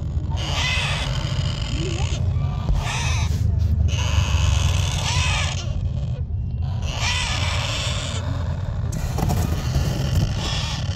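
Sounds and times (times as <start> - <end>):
parrot harsh calls: 0.0 - 10.9
steady low rumble: 0.0 - 10.9.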